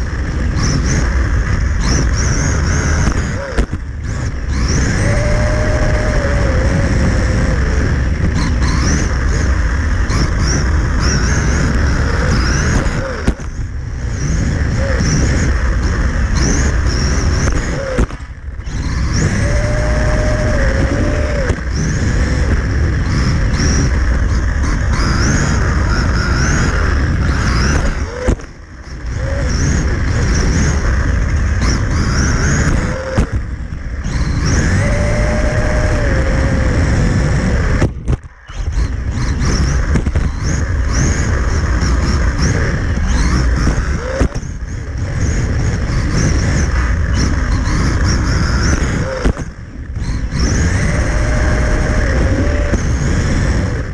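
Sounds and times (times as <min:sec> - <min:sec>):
rc truck motor whine: 0:00.0 - 0:53.9
steady rushing noise: 0:00.0 - 0:53.9.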